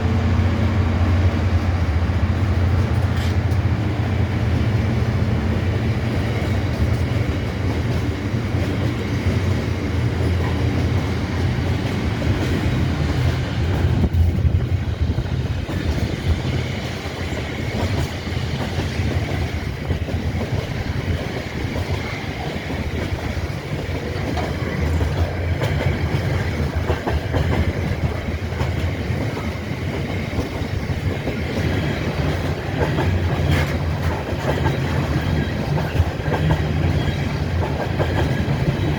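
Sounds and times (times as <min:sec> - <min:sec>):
train rumbling past: 0:00.0 - 0:38.9
wheels clacking over rail joints: 0:01.6 - 0:38.9.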